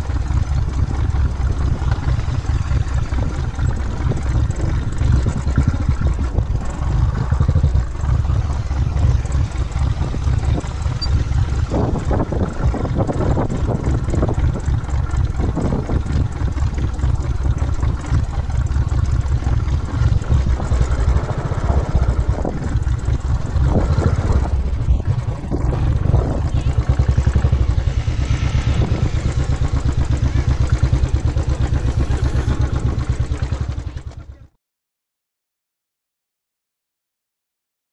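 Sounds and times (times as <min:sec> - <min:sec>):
motorcycle engine at low revs: 0:00.0 - 0:34.5.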